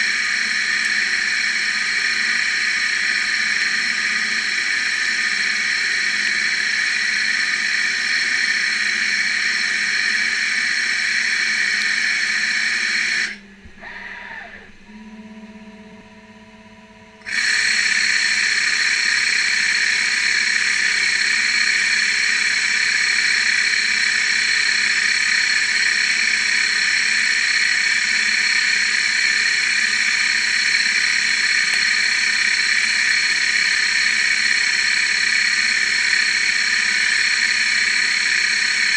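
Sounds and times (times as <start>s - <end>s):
falling whine: 0.0s - 15.6s, 17.2s - 38.9s
lathe hissing and whining: 0.0s - 15.7s, 17.2s - 38.9s.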